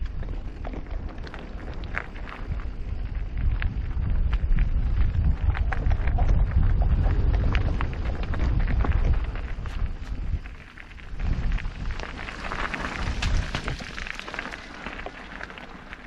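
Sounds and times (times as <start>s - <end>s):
bike tyres rattling on stones: 0.0s - 16.0s
wind rumble on microphone: 0.0s - 16.0s.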